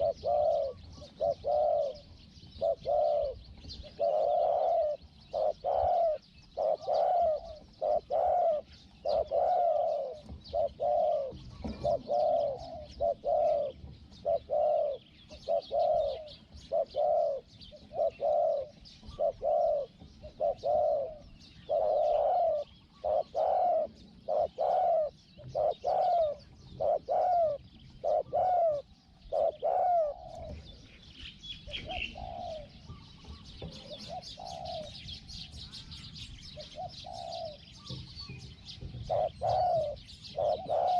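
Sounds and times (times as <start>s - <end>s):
dove cooing: 0.0s - 40.9s
small birds chirping faintly: 0.0s - 40.9s.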